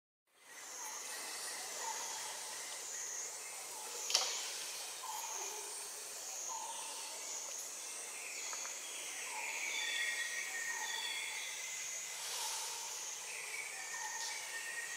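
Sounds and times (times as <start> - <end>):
high insect hiss: 0.4 - 14.9.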